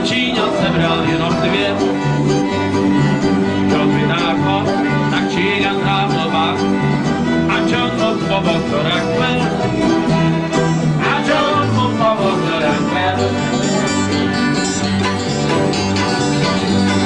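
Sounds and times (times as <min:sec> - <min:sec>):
fiddle melody: 0:00.0 - 0:17.0
strummed acoustic guitar: 0:00.0 - 0:17.0.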